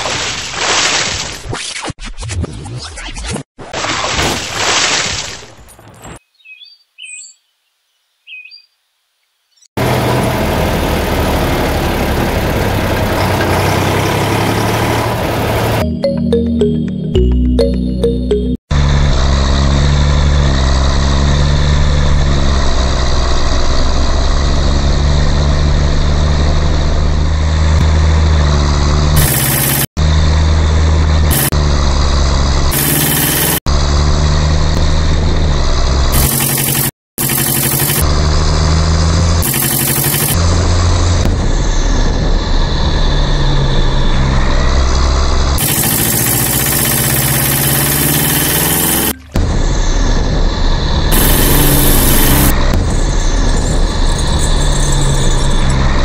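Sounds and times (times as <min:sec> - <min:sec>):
diesel engine throbbing: 0:09.8 - 0:56.0.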